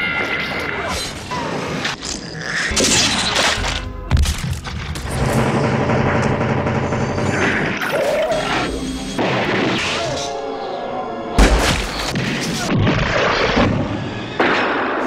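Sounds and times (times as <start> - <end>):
dramatic score music: 2.7 - 15.0.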